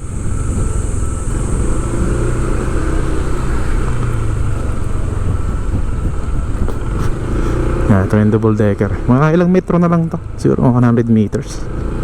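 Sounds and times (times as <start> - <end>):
engine rumble: 0.0 - 12.0
road noise: 0.0 - 12.0.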